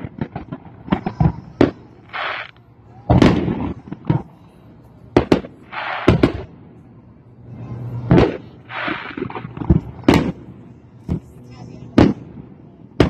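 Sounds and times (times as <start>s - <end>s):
fireworks booming: 0.0s - 4.5s, 5.1s - 6.8s, 7.5s - 13.0s
fireworks crackling: 0.0s - 13.0s.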